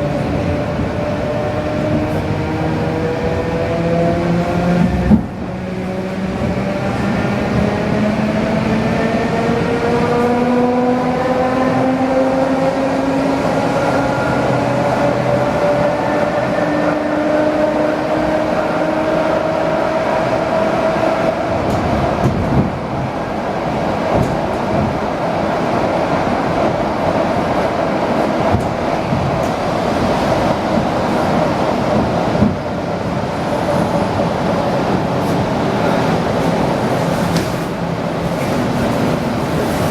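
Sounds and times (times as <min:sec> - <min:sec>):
train rolling on rails: 0:00.0 - 0:39.9.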